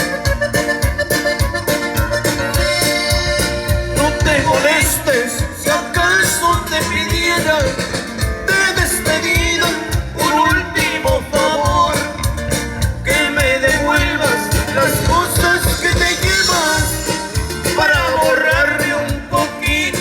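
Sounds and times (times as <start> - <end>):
live band playing latin music: 0.0 - 20.0.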